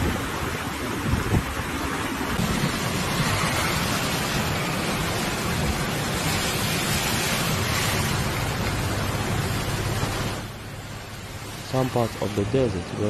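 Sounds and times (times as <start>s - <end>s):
floodwater rushing and churning: 0.0s - 13.0s.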